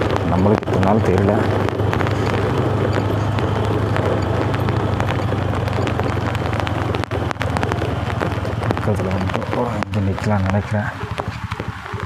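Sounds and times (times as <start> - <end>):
heavy rain: 0.0 - 12.0
motorcycle engine running: 0.0 - 12.0
sharp ticks: 0.0 - 12.0
wind noise: 0.0 - 12.0.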